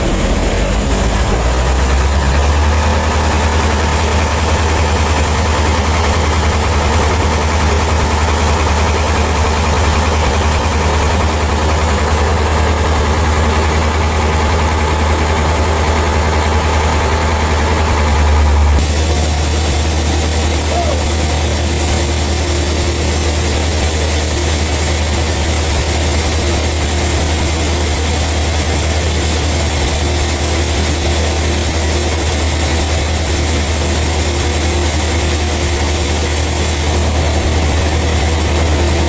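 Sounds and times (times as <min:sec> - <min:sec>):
heavy engine idling: 0:00.0 - 0:39.0.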